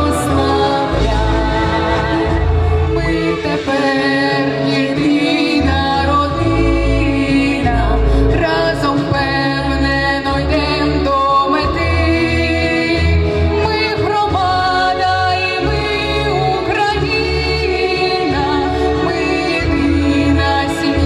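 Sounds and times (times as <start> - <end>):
instrumental backing with bass: 0.0 - 21.0
woman singing: 0.0 - 21.0.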